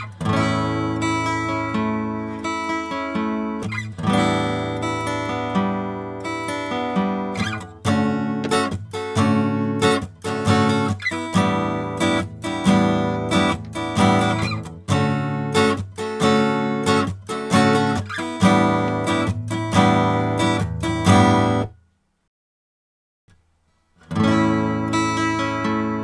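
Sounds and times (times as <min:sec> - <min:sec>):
acoustic guitar strumming: 0:00.0 - 0:21.8, 0:23.7 - 0:26.0.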